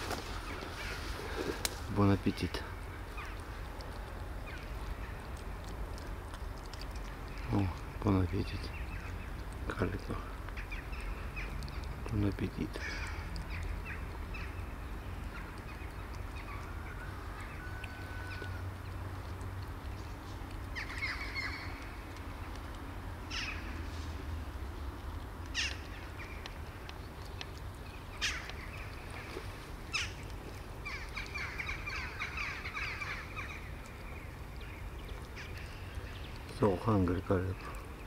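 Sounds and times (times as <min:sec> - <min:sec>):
low background rumble: 0:00.0 - 0:38.0.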